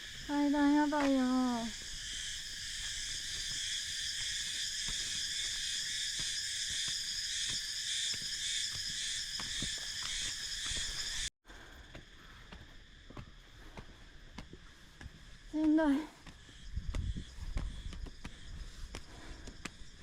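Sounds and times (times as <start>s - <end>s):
insects buzzing in pulses: 0.0s - 20.0s.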